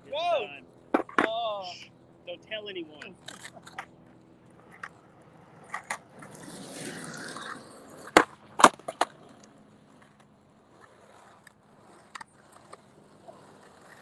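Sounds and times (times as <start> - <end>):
skateboard wheels rolling on pavement: 0.0 - 14.0
skateboard clacks: 0.8 - 1.8, 2.9 - 14.0.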